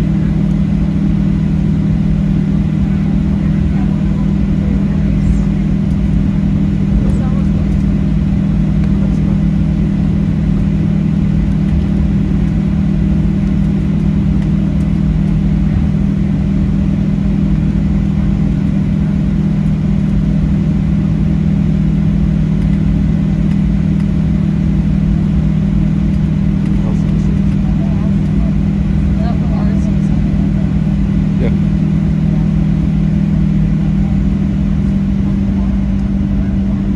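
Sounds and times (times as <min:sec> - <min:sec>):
aircraft cabin hum: 0:00.0 - 0:36.9.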